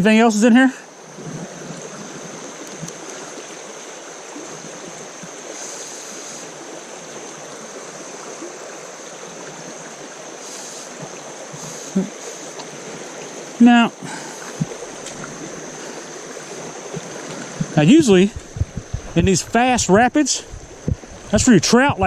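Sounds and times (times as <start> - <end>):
creek rapids rushing over rocks: 0.1 - 22.0.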